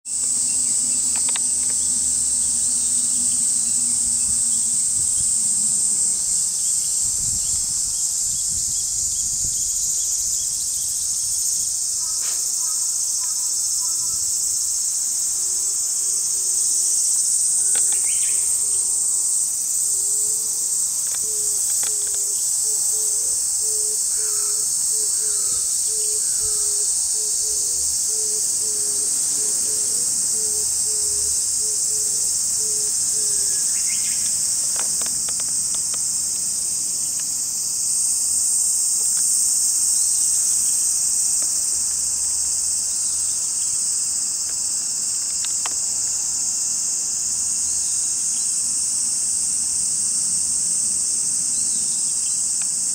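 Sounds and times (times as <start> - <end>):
cicadas singing: 0.0 - 52.9.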